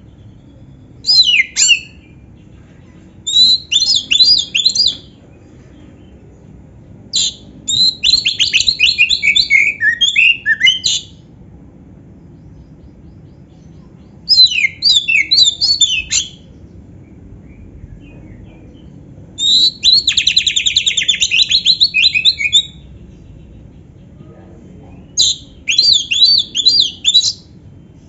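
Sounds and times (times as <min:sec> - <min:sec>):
songbird singing whistled notes: 0:00.0 - 0:02.5, 0:03.2 - 0:05.2, 0:07.1 - 0:11.3, 0:12.2 - 0:24.2, 0:25.0 - 0:27.7.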